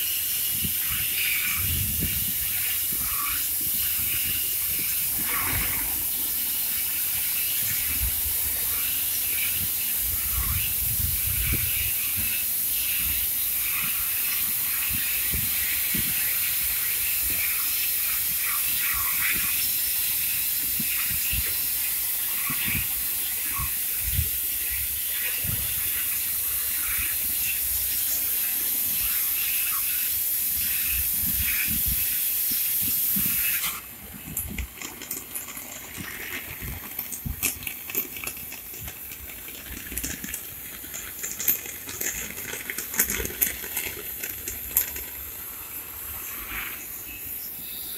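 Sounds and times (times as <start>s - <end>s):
cutting torch hissing and crackling: 0.0s - 47.9s.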